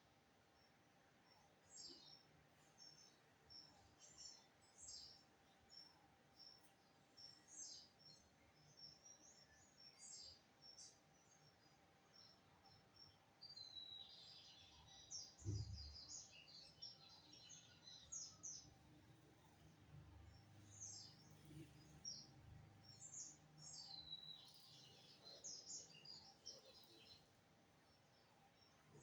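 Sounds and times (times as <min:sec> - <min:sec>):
bird twittering song: 0:00.4 - 0:29.0.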